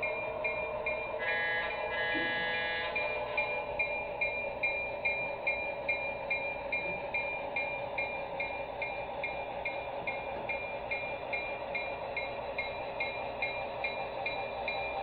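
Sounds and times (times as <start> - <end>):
locomotive bell ringing: 0.0 - 15.0
train running noise: 0.0 - 15.0.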